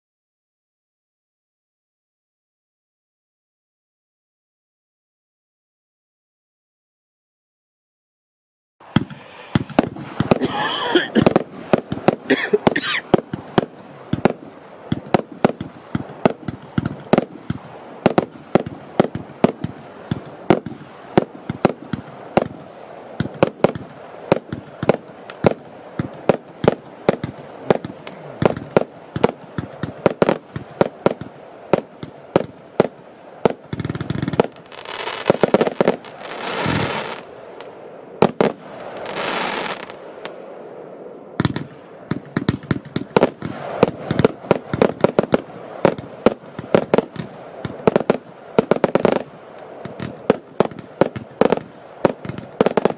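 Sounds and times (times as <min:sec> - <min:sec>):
fireworks crackling: 0:08.8 - 0:52.9
fireworks shots and bursts: 0:08.8 - 0:52.9.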